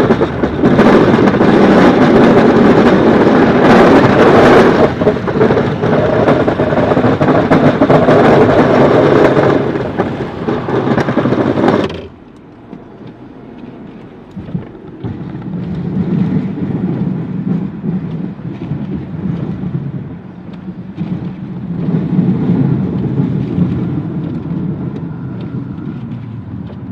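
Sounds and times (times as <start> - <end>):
engine rumble: 0.0 - 26.9
loud rushing of passing vehicle: 0.0 - 26.9.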